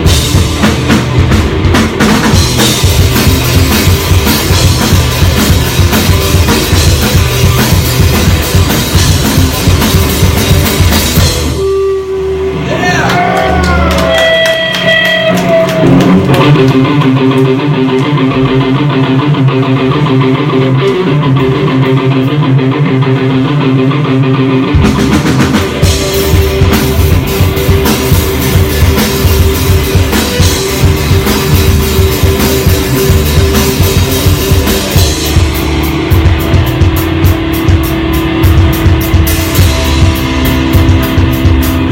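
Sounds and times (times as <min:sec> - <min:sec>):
electric guitars ringing: 0:00.0 - 0:41.9
live rock band playing: 0:00.0 - 0:41.9.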